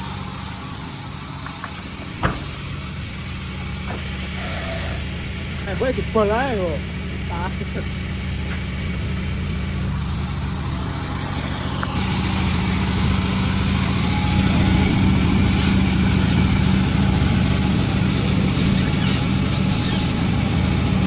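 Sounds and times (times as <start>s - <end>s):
sawmill droning: 0.0s - 21.0s.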